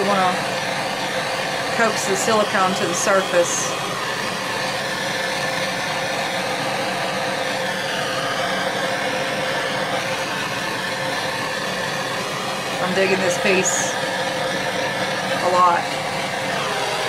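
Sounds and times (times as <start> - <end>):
gas torch hissing: 0.0 - 17.0.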